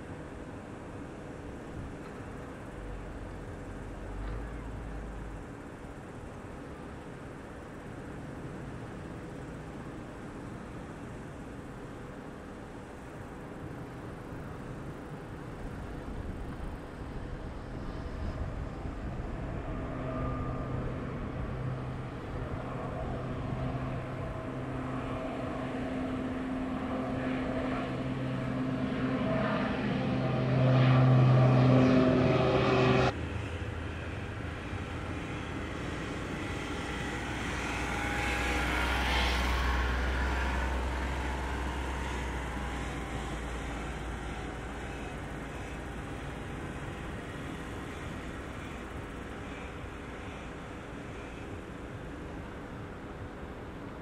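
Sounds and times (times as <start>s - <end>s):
aircraft deep rumble: 0.0s - 54.0s
turboprop propeller drone: 0.0s - 54.0s.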